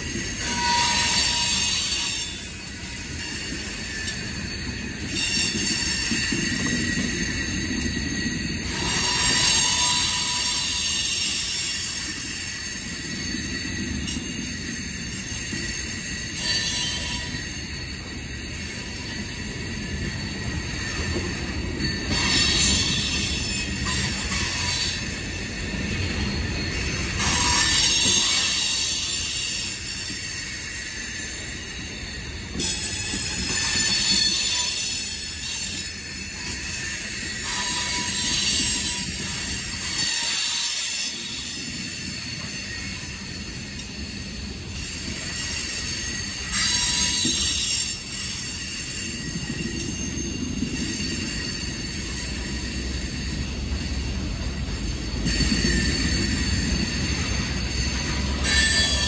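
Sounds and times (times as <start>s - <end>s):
high wheel squeal: 0.0s - 59.0s
steel wheels rumbling on rail: 0.0s - 59.0s.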